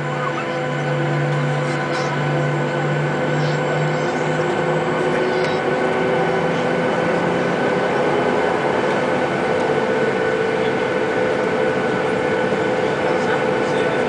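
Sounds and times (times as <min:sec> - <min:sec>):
constant engine whine: 0:00.0 - 0:14.0
jet engine cabin noise: 0:00.0 - 0:14.0.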